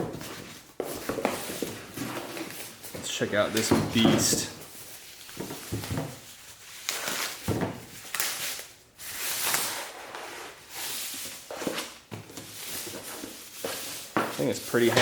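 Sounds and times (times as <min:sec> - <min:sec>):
packing material rustling: 0:00.2 - 0:15.0.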